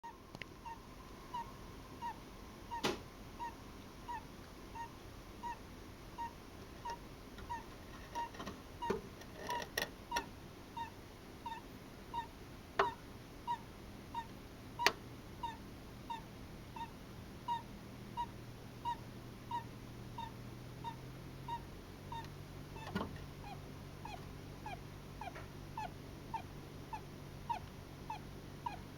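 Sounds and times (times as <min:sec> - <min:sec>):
hamster squeaky snoring peeps: 0:00.0 - 0:28.9.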